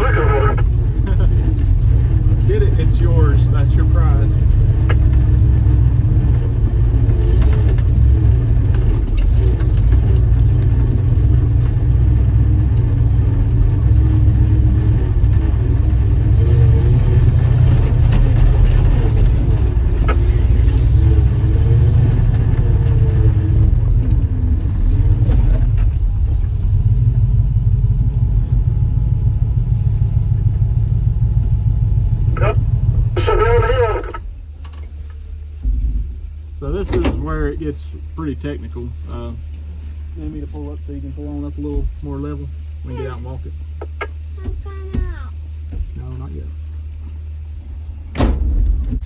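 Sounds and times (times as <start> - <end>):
jeep engine rumbling: 0.0 - 49.0.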